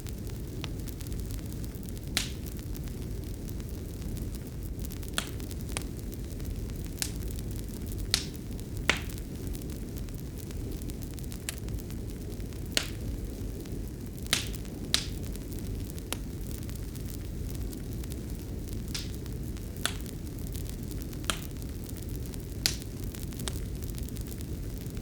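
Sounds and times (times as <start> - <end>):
fire crackling and popping: 0.0 - 25.0
low noise of fire burning: 0.0 - 25.0.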